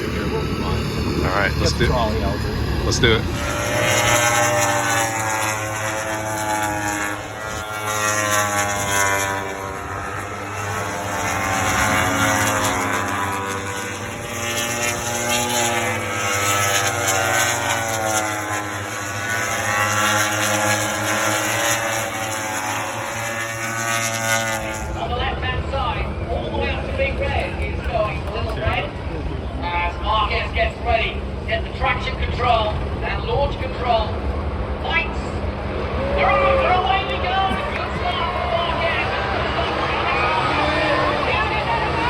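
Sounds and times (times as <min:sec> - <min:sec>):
racing motorcycle engines: 0:00.0 - 0:42.0.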